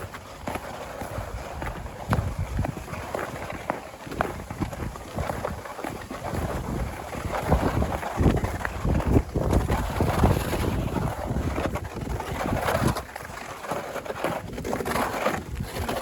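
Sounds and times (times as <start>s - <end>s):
wind buffeting microphone: 0.0s - 13.5s
crunching and scraping on snow: 0.0s - 16.0s.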